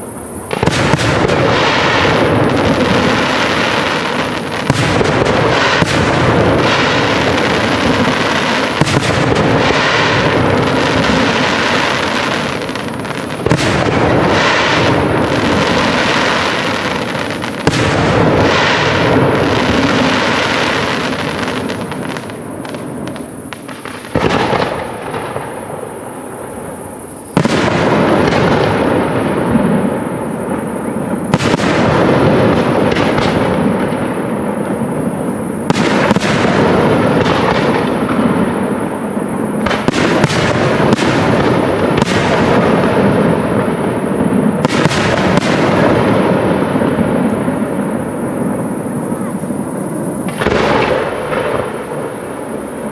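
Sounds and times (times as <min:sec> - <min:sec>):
continuous fireworks din: 0:00.0 - 0:52.9
firework bangs: 0:00.0 - 0:52.9.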